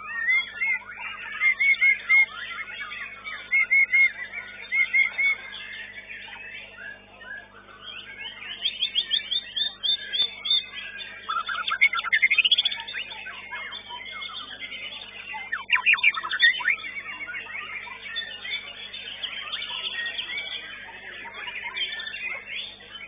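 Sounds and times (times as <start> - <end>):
songbird whistling and trilling: 0.0 - 23.0.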